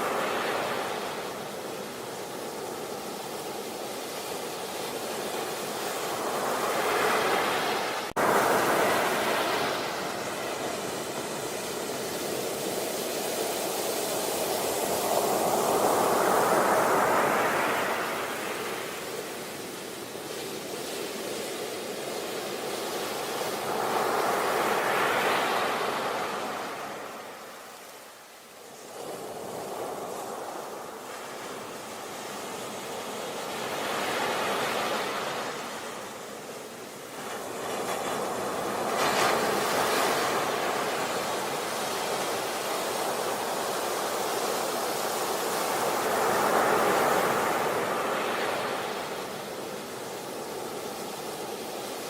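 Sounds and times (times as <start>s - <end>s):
sea waves breaking on beach: 0.0s - 52.0s.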